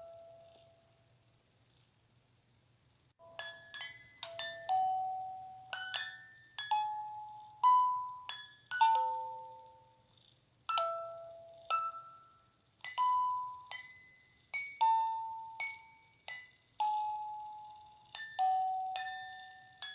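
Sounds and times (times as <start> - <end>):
chime lullaby: 0.0 - 0.9, 3.2 - 10.1, 10.7 - 19.9
faint low hum: 0.0 - 19.9.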